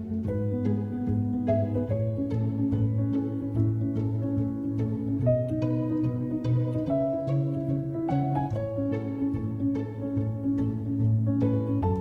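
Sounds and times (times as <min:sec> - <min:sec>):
light instrumental music: 0:00.0 - 0:12.0.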